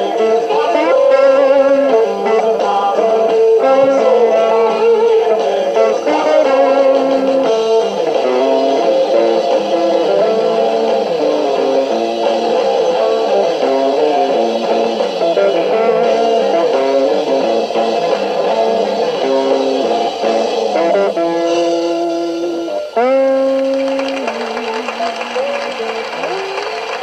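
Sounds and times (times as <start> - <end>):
electric guitar lead: 0.0 - 27.0.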